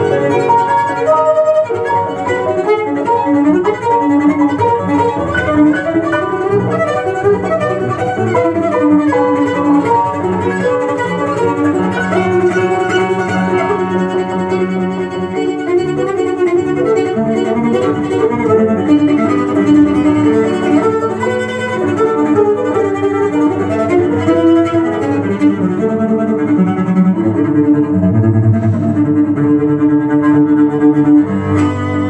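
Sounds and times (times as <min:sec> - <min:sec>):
cello music from loudspeakers: 0:00.0 - 0:32.0.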